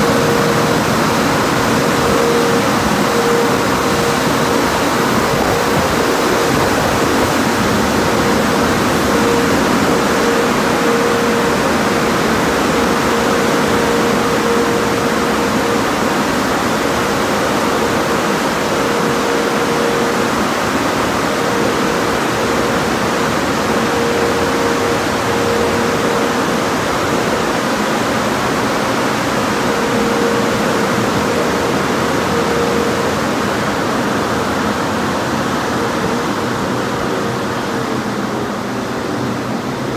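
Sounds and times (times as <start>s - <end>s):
car wash rushing noise: 0.0s - 39.9s
steady hum: 0.0s - 39.9s.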